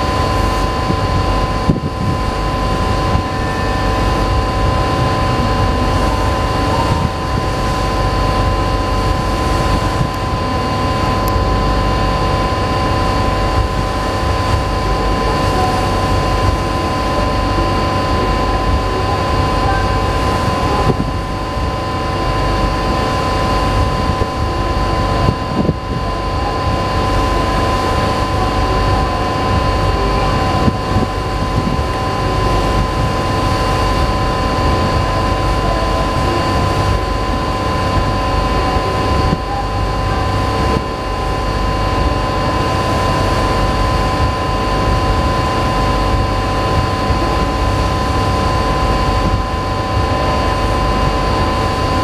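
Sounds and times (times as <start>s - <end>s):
ship engines droning: 0.0s - 52.0s
wind and water rumble: 0.0s - 52.0s.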